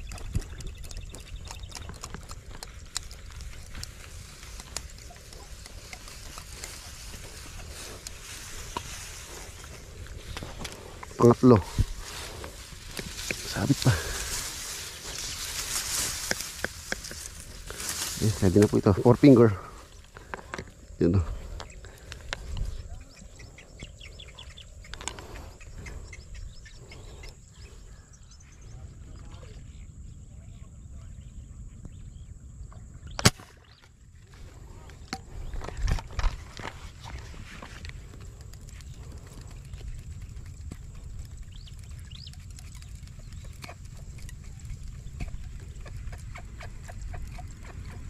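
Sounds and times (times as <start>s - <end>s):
small birds chirping: 0.0s - 48.0s
steady low rumble: 0.0s - 48.0s.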